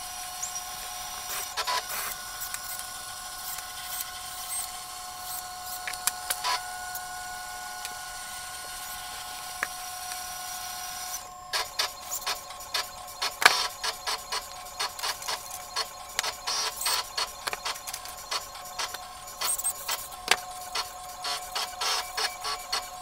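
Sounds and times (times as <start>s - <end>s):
steady high hum: 0.0s - 23.0s.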